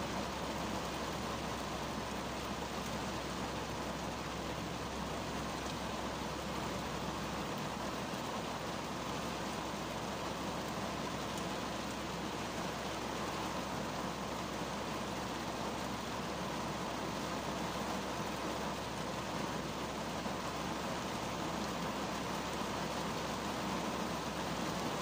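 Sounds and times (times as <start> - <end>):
rain on car windshield: 0.0 - 25.0.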